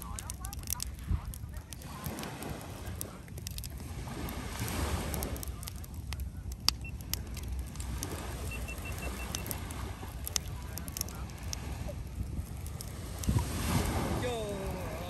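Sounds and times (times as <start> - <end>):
sharp pops of fire: 0.0 - 14.9
bonfire crackling: 0.0 - 15.0
steady low rumble: 0.0 - 15.0.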